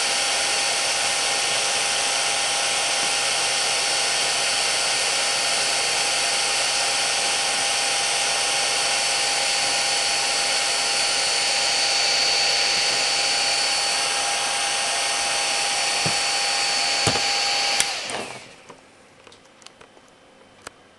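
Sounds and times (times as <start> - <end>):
cooling fan whining: 0.0 - 19.9.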